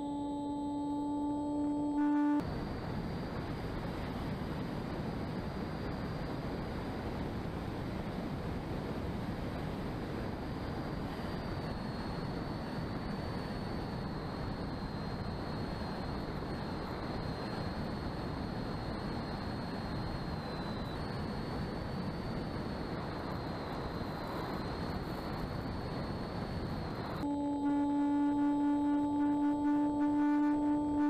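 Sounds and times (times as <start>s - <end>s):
motor and propeller whine: 0.0s - 31.0s.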